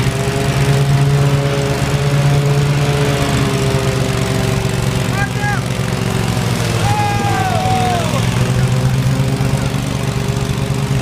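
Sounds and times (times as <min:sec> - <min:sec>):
riding mower engine humming: 0:00.0 - 0:11.0.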